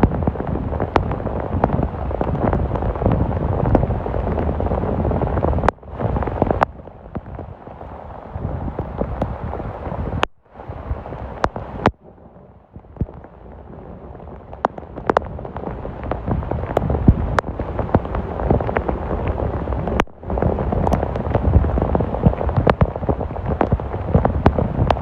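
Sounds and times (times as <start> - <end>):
rain drops ticking on a surface: 0.0 - 25.0.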